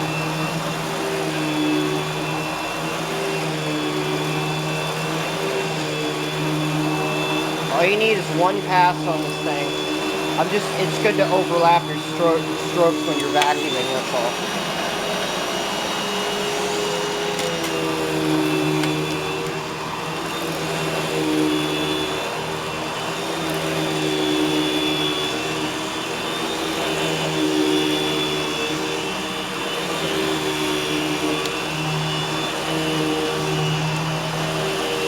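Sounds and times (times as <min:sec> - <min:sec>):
vacuum cleaner motor whine: 0:00.0 - 0:35.0.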